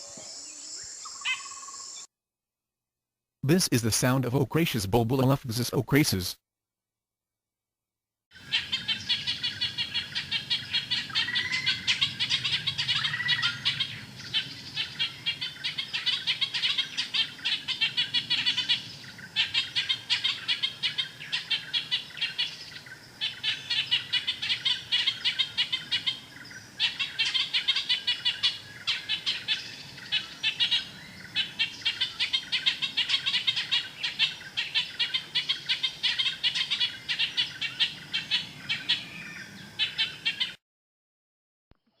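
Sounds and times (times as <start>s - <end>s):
bird harsh chattering calls: 0.0s - 2.1s, 8.4s - 40.6s.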